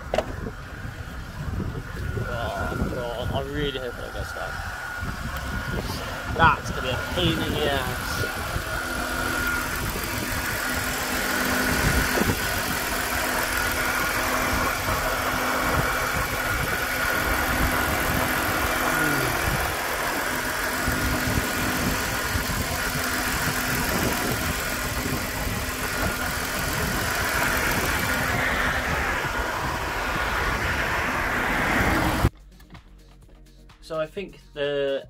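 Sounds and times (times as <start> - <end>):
car engine idling: 0.0 - 32.4.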